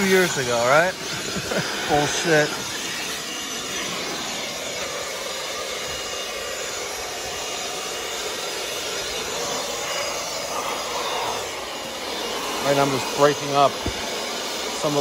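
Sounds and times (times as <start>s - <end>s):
leaf blower running: 0.0s - 15.0s.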